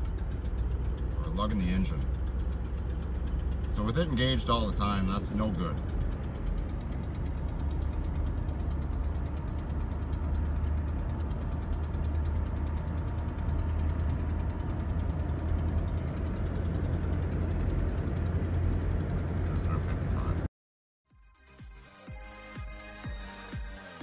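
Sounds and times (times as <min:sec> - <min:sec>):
car engine lugging low drone: 0:00.0 - 0:20.5.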